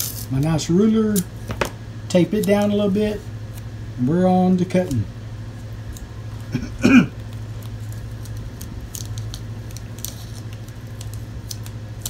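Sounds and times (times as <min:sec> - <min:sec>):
masking tape crinkling: 0:00.0 - 0:03.7, 0:04.6 - 0:12.0
steady low hum: 0:00.0 - 0:12.0.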